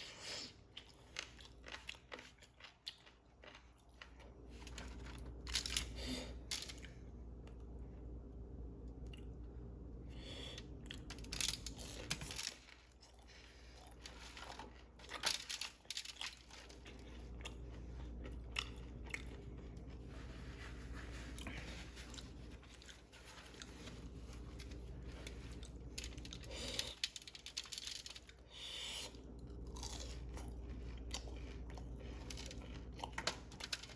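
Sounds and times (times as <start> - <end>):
steady low hum: 0.0 - 33.9
chewing crispy food: 0.1 - 7.8, 10.7 - 33.9.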